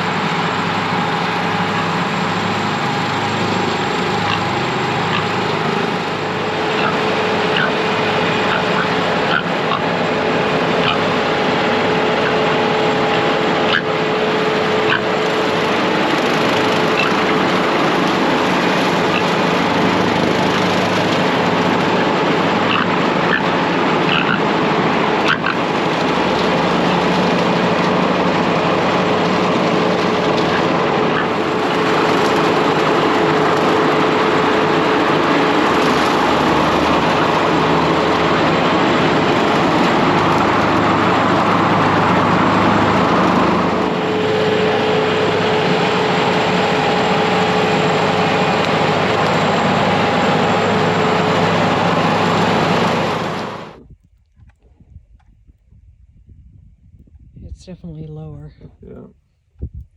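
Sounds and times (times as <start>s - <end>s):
riding lawn mower engine running: 0.0s - 55.6s.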